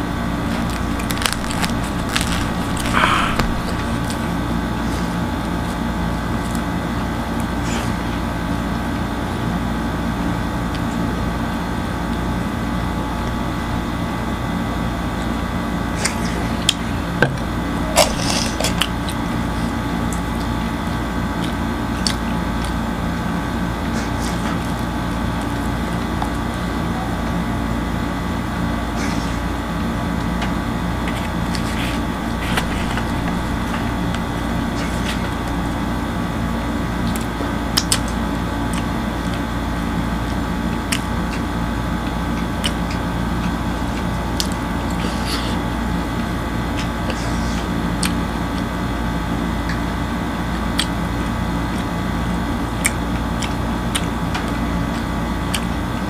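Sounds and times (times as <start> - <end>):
chewing and tearing flatbread: 0.0 - 8.2, 13.0 - 14.4, 17.6 - 26.5, 28.8 - 56.0
steady mechanical hum: 0.0 - 56.0.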